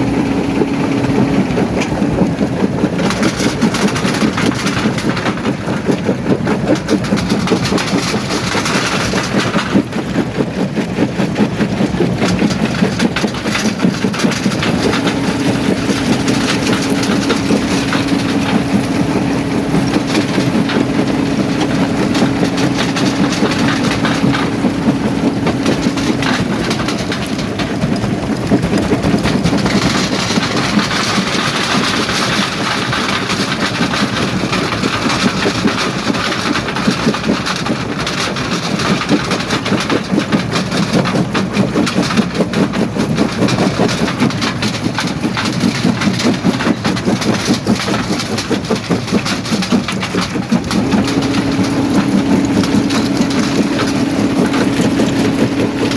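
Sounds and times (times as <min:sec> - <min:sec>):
engine drone: 0:00.0 - 0:55.9
rattling and cracking of stone: 0:00.5 - 0:55.9.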